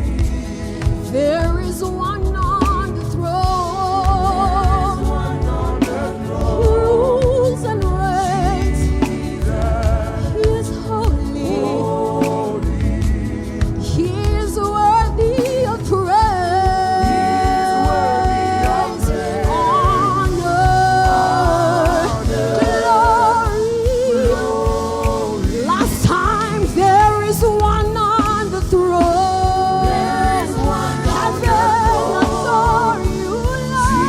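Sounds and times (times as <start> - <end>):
band with steady beat: 0.0 - 34.0
gospel singing: 0.0 - 34.0.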